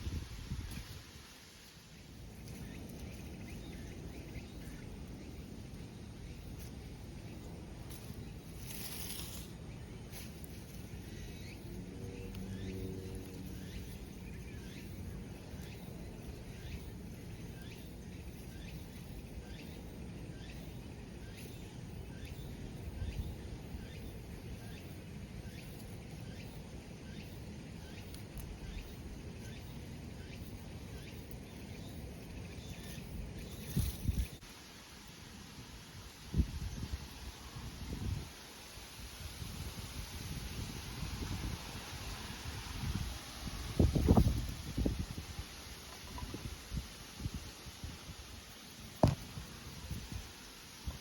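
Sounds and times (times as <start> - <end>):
low wind-like rumble: 0.0 - 34.5, 35.3 - 51.0.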